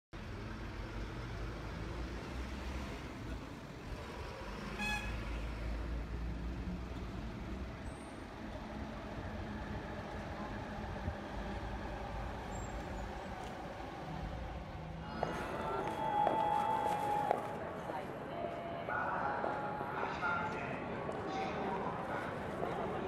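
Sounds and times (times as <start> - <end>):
city traffic rumble: 0.2 - 23.0.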